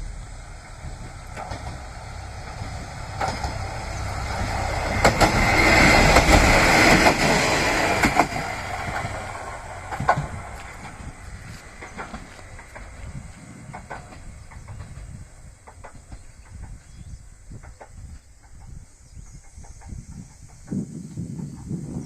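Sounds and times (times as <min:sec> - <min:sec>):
diesel train passing: 0:00.0 - 0:22.0
wheels clicking over rail joints: 0:00.0 - 0:22.0.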